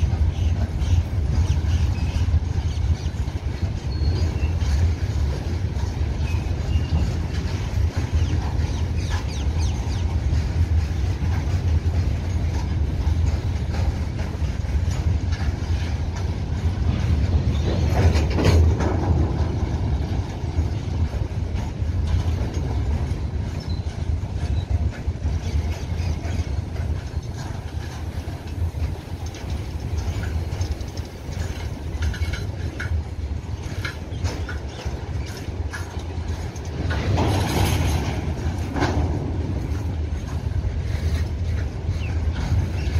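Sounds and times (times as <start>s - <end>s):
freight wagons rumbling past: 0.0s - 42.9s
wheels clicking over rail joints: 0.0s - 42.9s.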